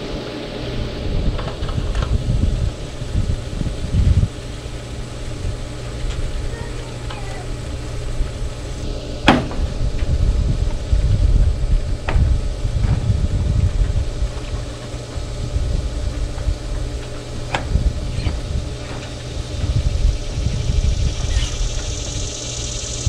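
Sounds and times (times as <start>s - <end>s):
low rumble: 0.0s - 23.0s
pool pump motor humming: 0.0s - 23.0s.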